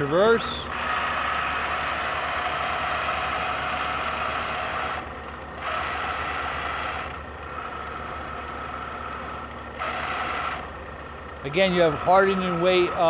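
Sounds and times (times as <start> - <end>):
lathe carriage whining: 0.0 - 13.0.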